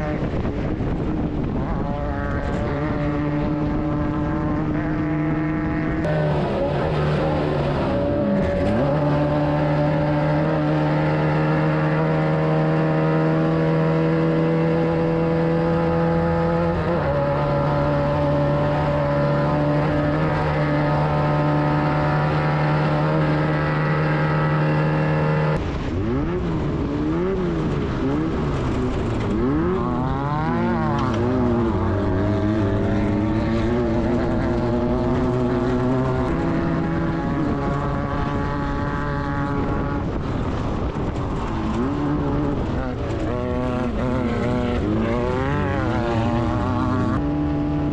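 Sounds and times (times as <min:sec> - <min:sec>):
engine running hard revving: 0:00.0 - 0:47.9.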